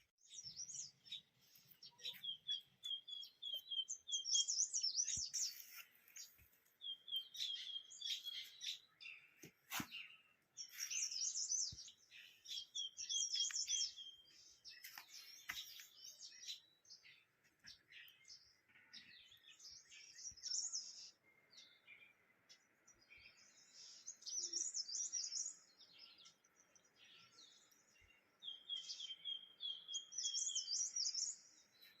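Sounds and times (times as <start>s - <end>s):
small birds singing and chirping: 0.0s - 32.0s.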